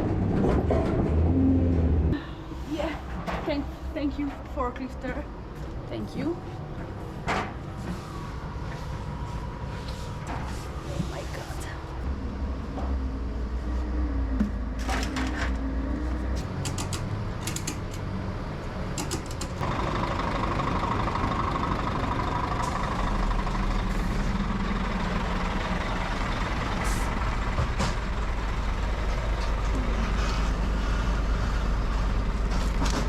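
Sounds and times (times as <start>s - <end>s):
heavy vehicle engine running: 0.0s - 33.0s.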